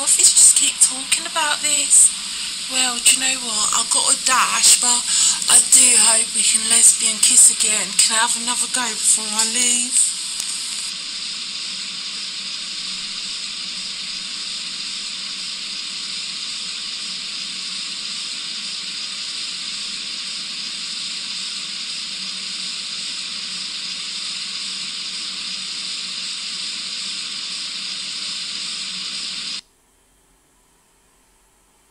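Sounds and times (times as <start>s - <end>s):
steady hiss: 0.0s - 31.9s.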